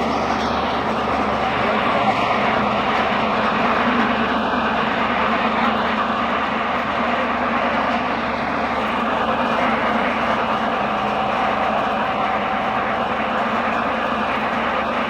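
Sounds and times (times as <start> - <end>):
pellet machinery drone: 0.0 - 15.0.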